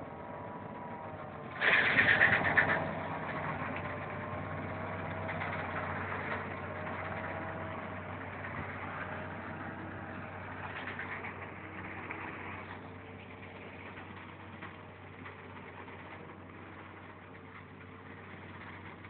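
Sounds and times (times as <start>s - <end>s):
engine running with rattle: 0.0s - 19.0s.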